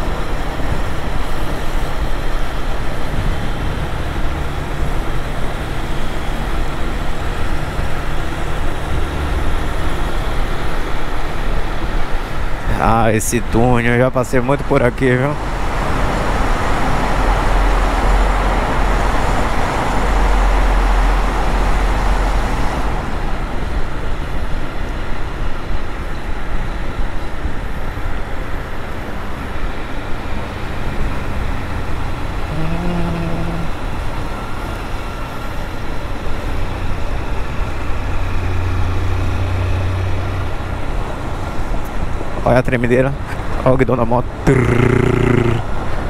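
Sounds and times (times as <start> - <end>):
road and wind noise: 0.0 - 44.5
traffic: 0.0 - 46.0.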